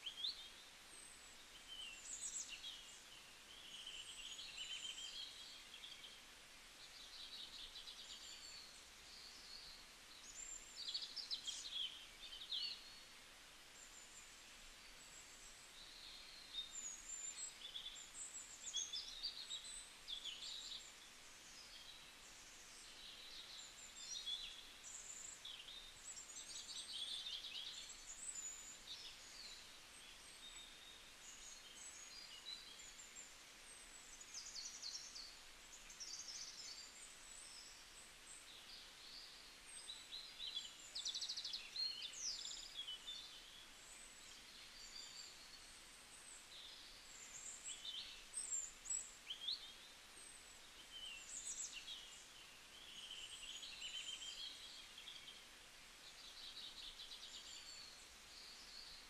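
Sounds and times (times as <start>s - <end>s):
faint steady hiss: 0.0s - 59.0s
small birds chirping: 0.0s - 59.0s.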